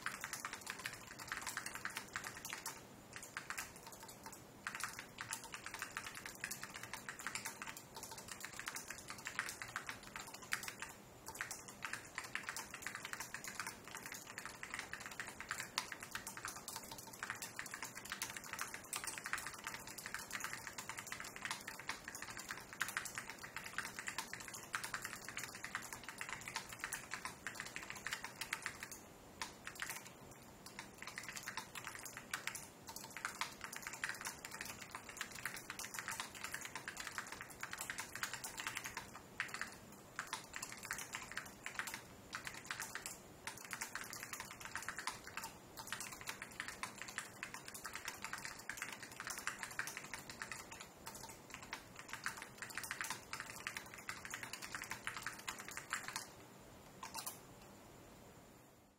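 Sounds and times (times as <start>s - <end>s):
mechanical keyboard typing: 0.0s - 57.4s.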